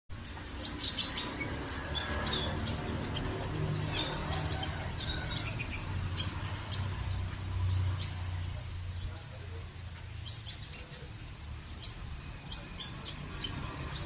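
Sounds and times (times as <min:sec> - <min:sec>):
bird chirping rapidly: 0:00.1 - 0:14.0.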